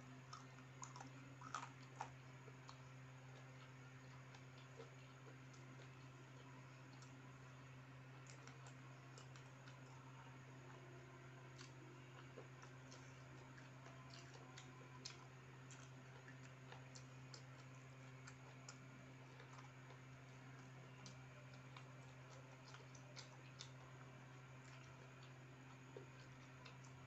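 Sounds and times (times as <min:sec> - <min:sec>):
soft eating clicks and smacks: 0:00.0 - 0:27.0
steady low hum: 0:00.0 - 0:27.0.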